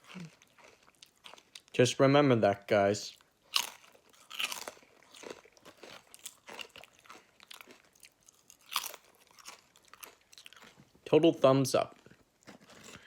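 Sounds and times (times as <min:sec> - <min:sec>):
person chewing potato chips: 0:00.0 - 0:01.8, 0:03.1 - 0:11.0, 0:11.8 - 0:13.0.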